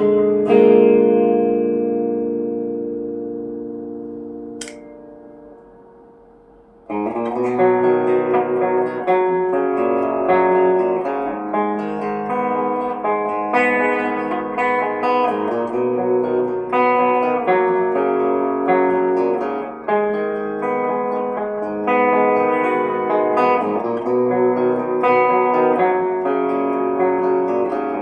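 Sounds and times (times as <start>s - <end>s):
electric guitar chords ringing: 0.0s - 28.0s.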